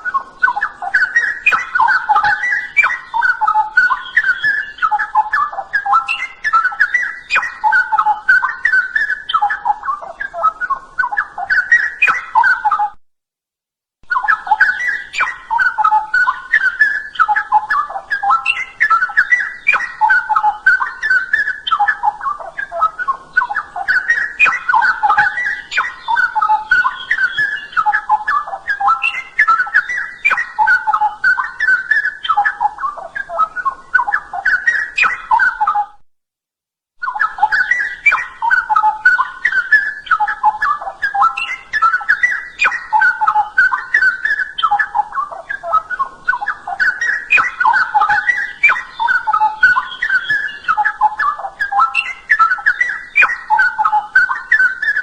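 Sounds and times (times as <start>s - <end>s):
bulbul singing: 0.0s - 12.9s, 14.0s - 35.9s, 37.0s - 55.0s.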